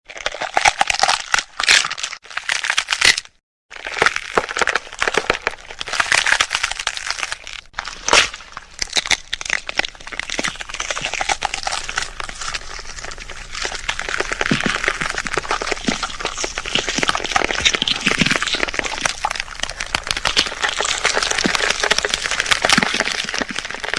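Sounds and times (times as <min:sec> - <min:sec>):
bones cracking and crunching: 0:00.0 - 0:23.9.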